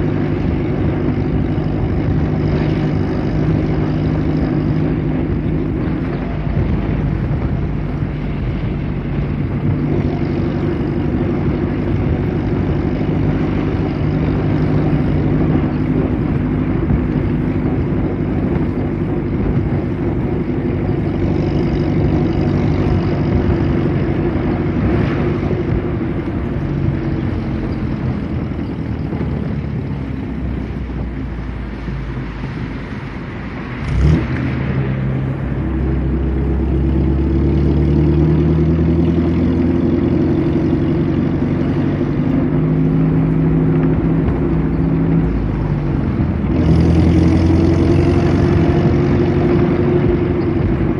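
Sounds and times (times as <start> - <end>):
vintage car engine running: 0.0 - 50.9.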